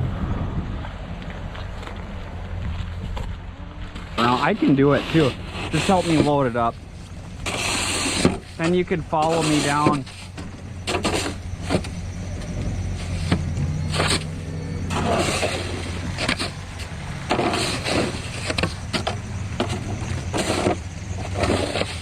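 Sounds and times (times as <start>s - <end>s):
rustling or scraping bursts: 0.4s - 22.0s
pickup truck engine idling: 1.3s - 22.0s.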